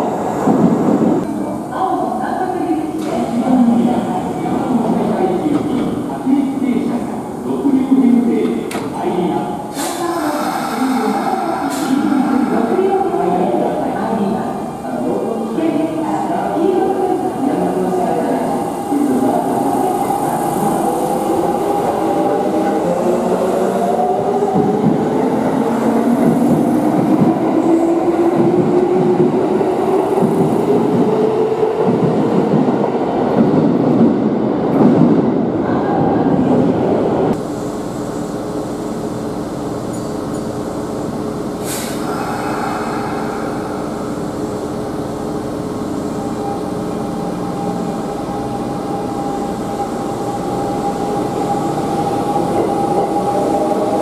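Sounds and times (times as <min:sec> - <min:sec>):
standing train humming: 0:00.0 - 0:33.6, 0:36.4 - 0:54.0.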